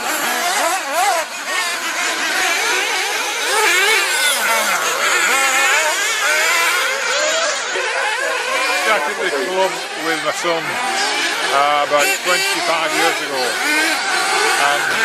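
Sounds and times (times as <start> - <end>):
rc car engines buzzing: 0.0 - 15.0.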